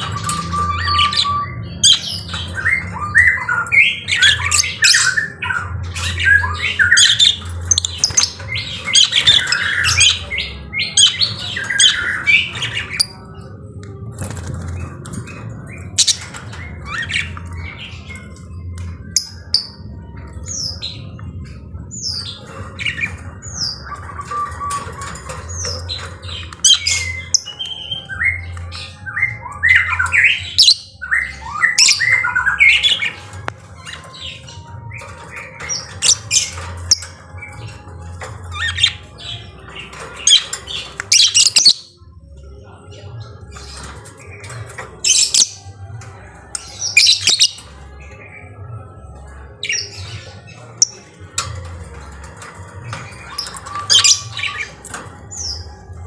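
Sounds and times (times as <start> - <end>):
lovebirds squawking and chirping: 0.0 - 56.0.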